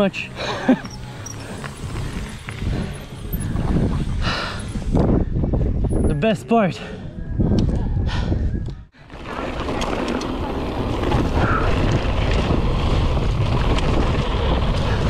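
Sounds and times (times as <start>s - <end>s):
bike tyre rumble: 0.0s - 6.1s, 7.4s - 15.0s
bike clicks and rattles: 0.0s - 6.2s, 8.6s - 15.0s
wind buffeting microphone: 1.1s - 6.2s, 6.8s - 15.0s.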